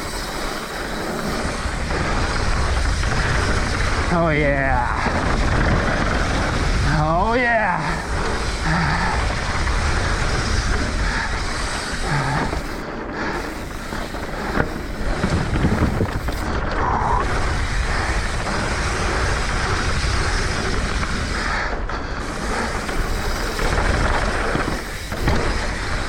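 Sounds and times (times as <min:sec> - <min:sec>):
bike tyres rumbling on dirt: 0:00.0 - 0:26.0
wind buffeting microphone: 0:00.0 - 0:26.0.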